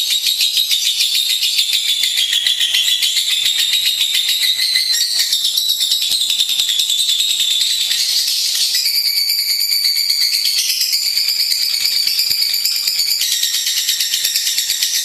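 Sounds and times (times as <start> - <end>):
bird chattering trill: 0.0 - 15.0.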